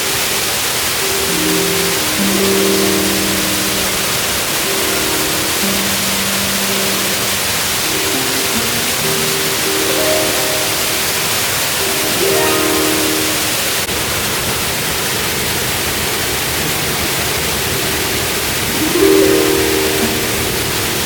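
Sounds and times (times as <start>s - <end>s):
faint musical notes: 0.0s - 14.0s, 17.2s - 21.0s
waterfall rushing: 0.0s - 21.0s.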